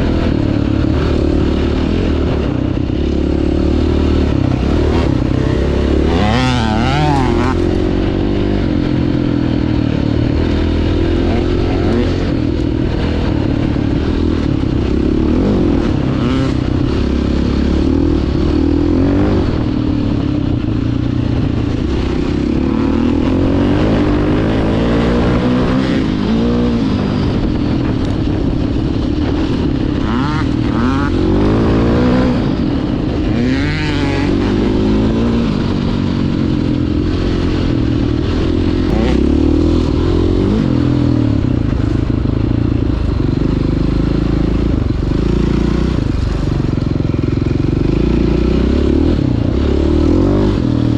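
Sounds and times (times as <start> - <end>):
dirt bike engine revving: 0.0 - 42.0, 43.1 - 50.9.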